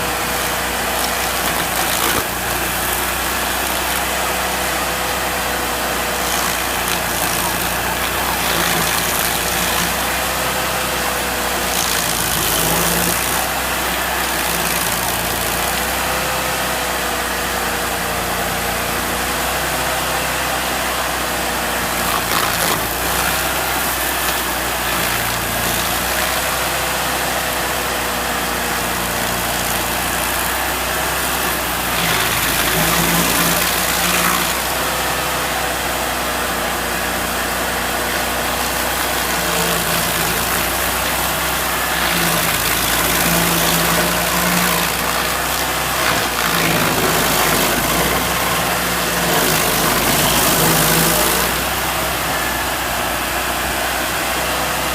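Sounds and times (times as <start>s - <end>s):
stump grinder grinding wood: 0.0s - 54.9s.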